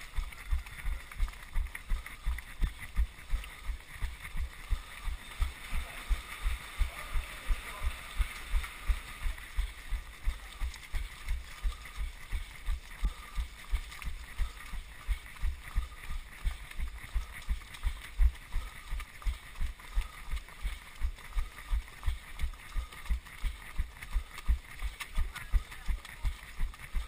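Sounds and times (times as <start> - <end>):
pack of runners: 0.0 - 27.0.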